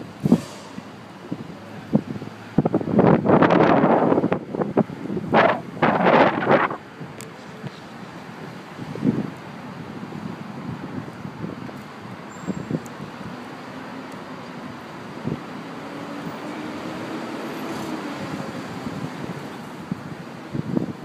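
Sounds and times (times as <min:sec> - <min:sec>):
city street traffic: 0:00.0 - 0:21.0
wind gusts on microphone: 0:00.0 - 0:21.0.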